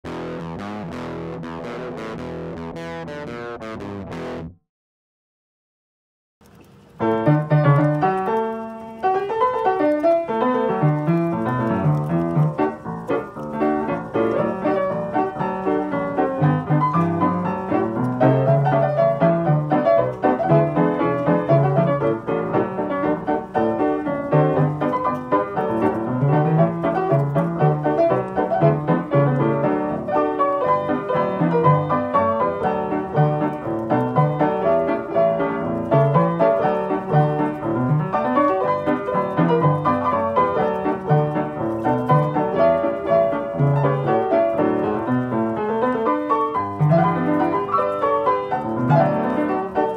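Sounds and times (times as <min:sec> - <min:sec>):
piano music: 0:00.0 - 0:04.6, 0:06.7 - 0:49.9.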